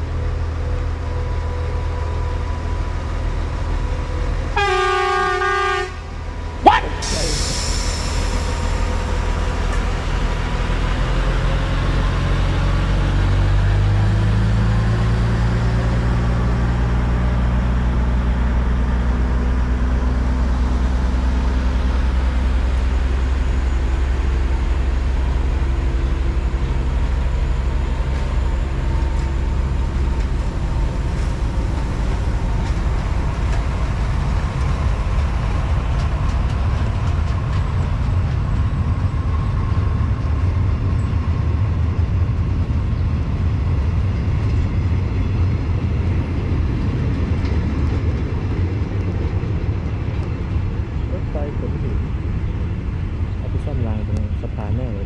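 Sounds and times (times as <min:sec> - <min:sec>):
diesel train engine running: 0:00.0 - 0:55.0.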